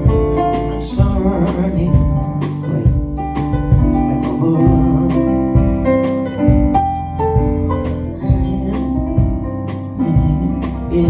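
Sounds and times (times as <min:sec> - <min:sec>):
keyboard playing chords: 0:00.0 - 0:11.0
steady beat: 0:00.0 - 0:11.0.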